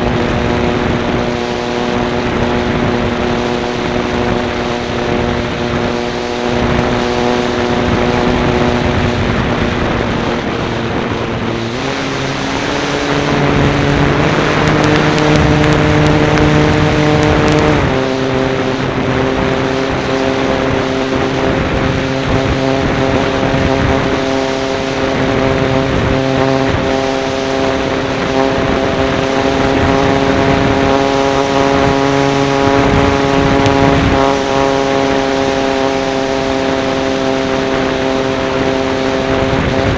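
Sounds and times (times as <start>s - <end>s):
air rushing over microphone: 0.0s - 39.9s
model plane engine running: 0.0s - 39.9s.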